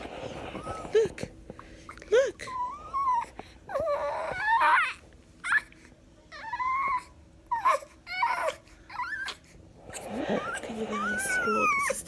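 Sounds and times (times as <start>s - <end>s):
newborn baby whimpering cries: 1.9s - 12.0s.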